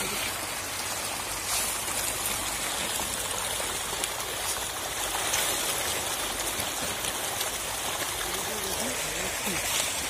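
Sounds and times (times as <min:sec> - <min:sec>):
fish splashing at water surface: 0:00.0 - 0:10.0.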